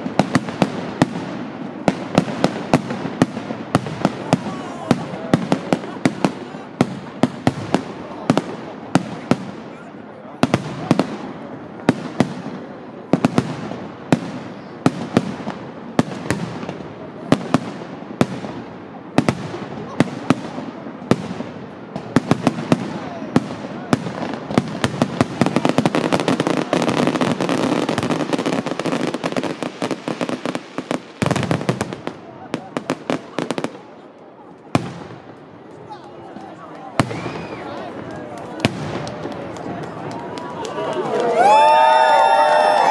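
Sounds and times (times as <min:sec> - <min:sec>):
rapid firework pops and crackle: 0:00.0 - 0:09.7, 0:10.4 - 0:18.6, 0:19.2 - 0:41.3.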